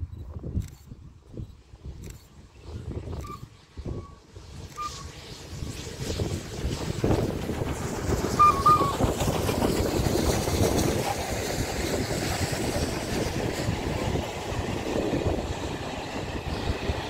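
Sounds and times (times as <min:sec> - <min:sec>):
train wheels rumbling on rails: 0:00.2 - 0:17.0
steam locomotive exhaust: 0:02.7 - 0:17.0.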